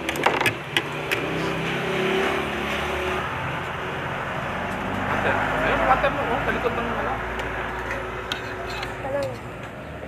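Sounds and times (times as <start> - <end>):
vehicle engine passing by: 0.8 - 9.6.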